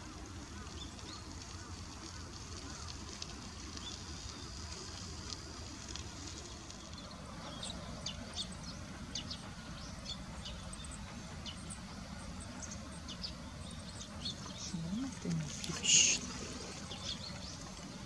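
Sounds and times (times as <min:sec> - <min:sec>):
faint high hiss: 0:00.0 - 0:18.0.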